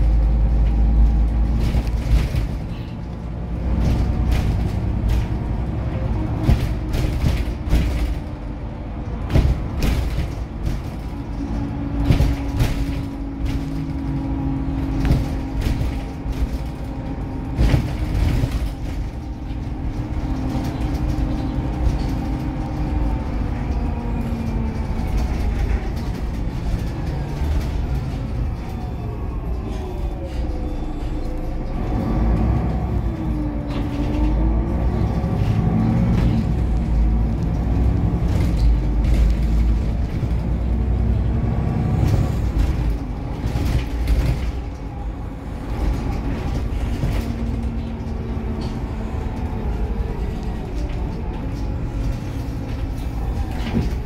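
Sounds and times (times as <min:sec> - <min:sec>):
bus engine rumble and whine: 0:00.0 - 0:54.0.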